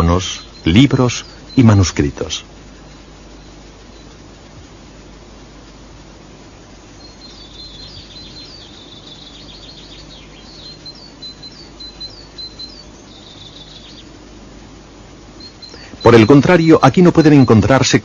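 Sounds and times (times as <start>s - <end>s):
low hum and hiss: 0.0s - 18.0s
songbird chirping and trilling: 0.0s - 18.0s.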